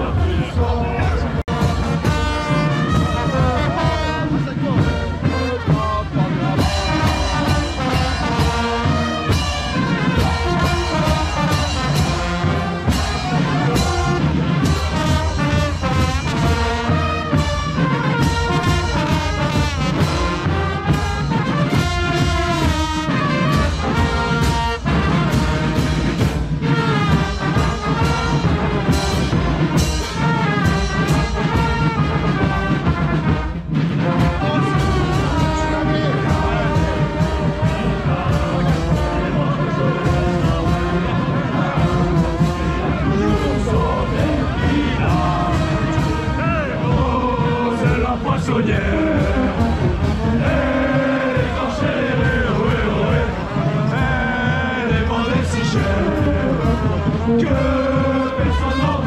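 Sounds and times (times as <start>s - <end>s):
brass band playing: 0.0s - 59.0s
steady drumbeat: 0.0s - 59.0s.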